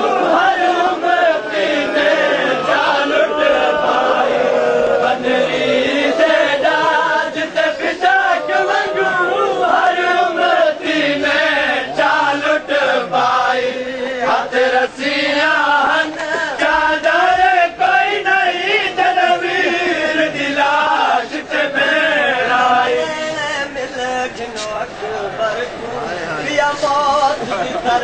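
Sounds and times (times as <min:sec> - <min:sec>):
crowd of men chanting: 0:00.0 - 0:28.0.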